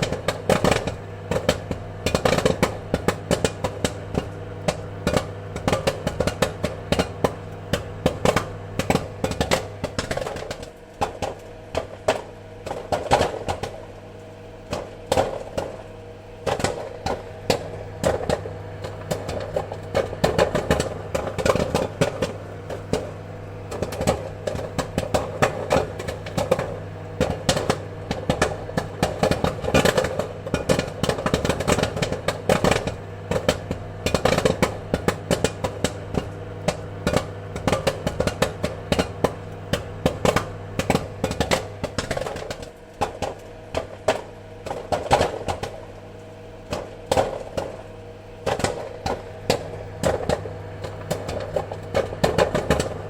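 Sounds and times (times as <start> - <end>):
popcorn popping: 0.0 - 53.0
steady low hum: 0.0 - 53.0.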